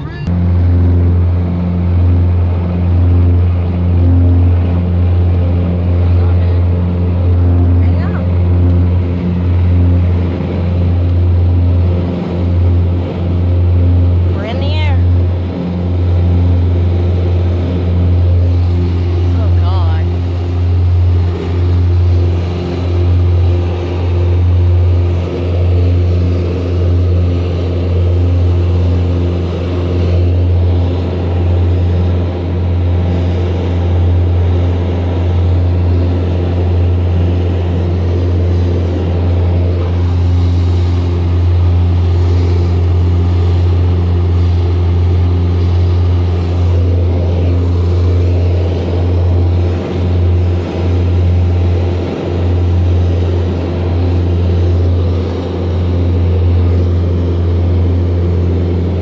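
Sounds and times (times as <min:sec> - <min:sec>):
aircraft engine drone: 0:00.0 - 0:59.0
steady humming tones: 0:00.0 - 0:59.0.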